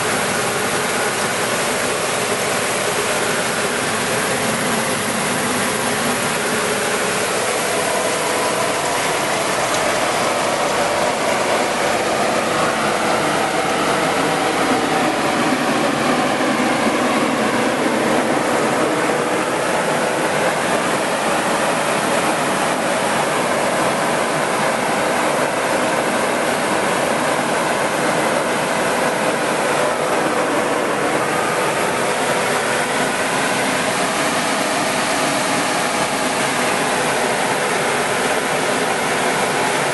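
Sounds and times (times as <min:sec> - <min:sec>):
grain cleaning machine running: 0:00.0 - 0:39.9.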